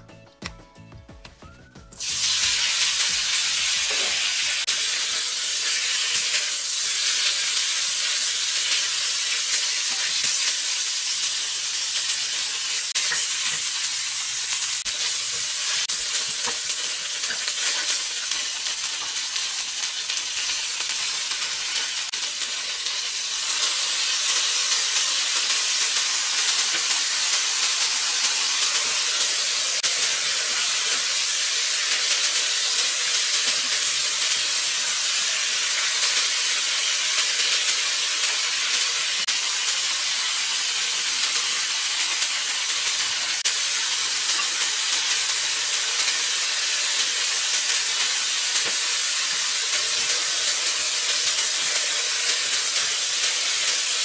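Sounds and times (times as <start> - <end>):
stir-fry sizzling in hot oil: 1.9 - 54.0.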